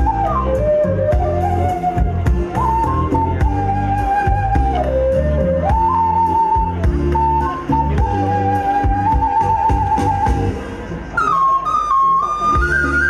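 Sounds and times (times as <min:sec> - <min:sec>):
flute melody with slides: 0:00.0 - 0:13.0
low backing accompaniment: 0:00.0 - 0:13.0.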